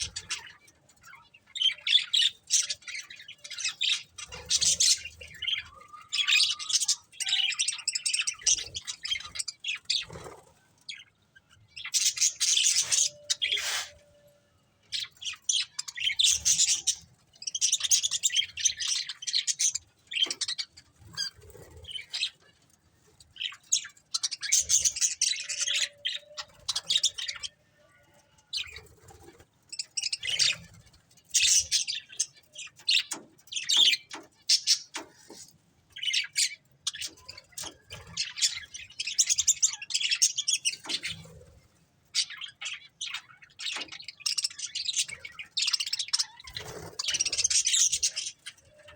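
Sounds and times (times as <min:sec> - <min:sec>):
budgerigars chirping and warbling: 0:00.0 - 0:14.1, 0:14.8 - 0:48.9.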